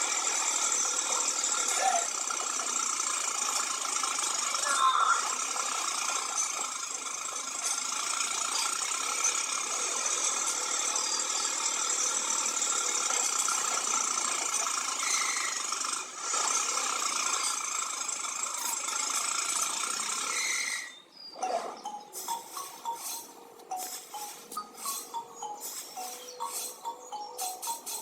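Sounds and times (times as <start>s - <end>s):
small motor running: 0.0s - 28.0s.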